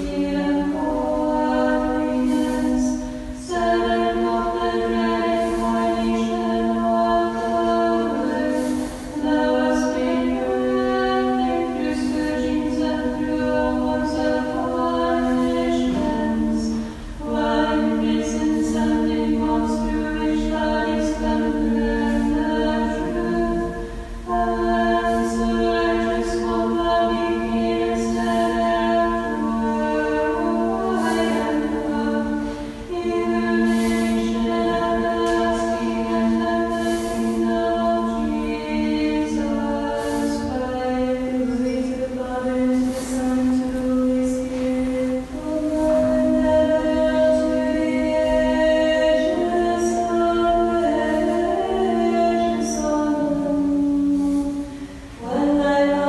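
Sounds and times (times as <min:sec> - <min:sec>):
unaccompanied voices chanting: 0:00.0 - 0:56.0.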